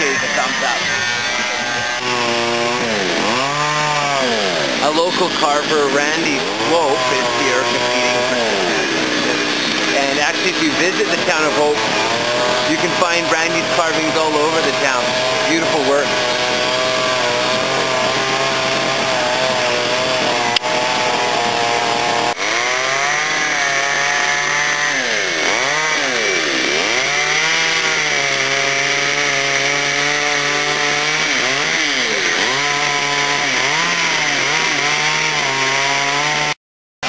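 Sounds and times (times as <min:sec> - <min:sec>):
chainsaws carving wood: 0:00.0 - 0:36.6.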